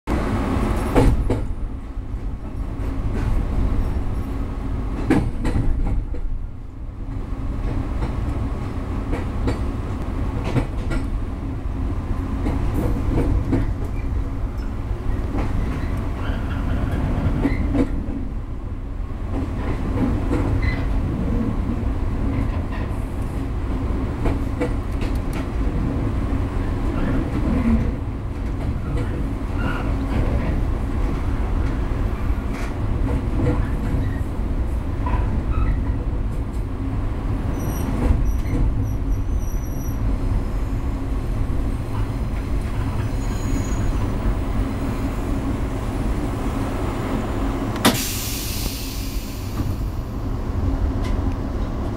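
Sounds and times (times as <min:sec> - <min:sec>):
train low running rumble: 0:00.1 - 0:51.9.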